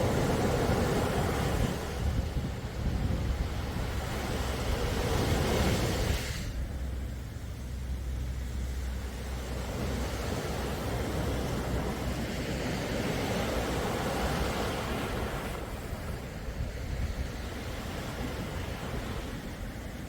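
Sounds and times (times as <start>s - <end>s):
sea waves washing ashore: 0.0s - 20.0s
wind rumble on microphone: 0.0s - 20.0s.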